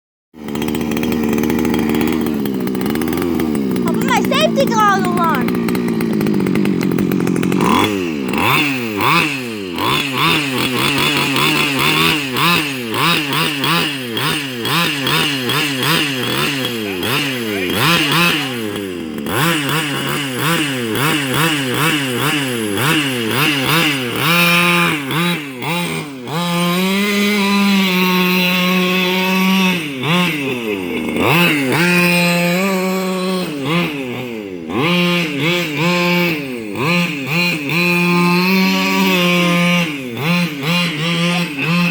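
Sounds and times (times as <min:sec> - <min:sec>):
small two-stroke engine revving: 0:00.4 - 0:41.9.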